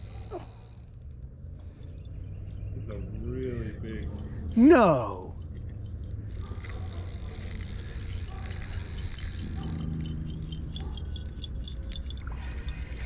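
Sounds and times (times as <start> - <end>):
fishing reel clicking: 0.0 - 1.3, 3.4 - 13.0.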